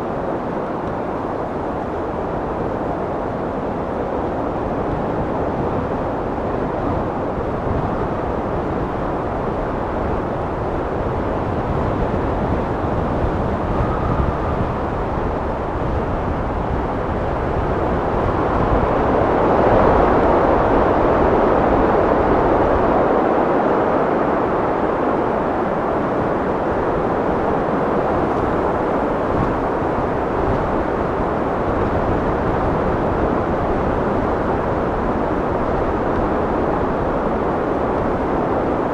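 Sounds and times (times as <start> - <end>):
wind blowing: 0.0 - 23.1, 24.0 - 38.9.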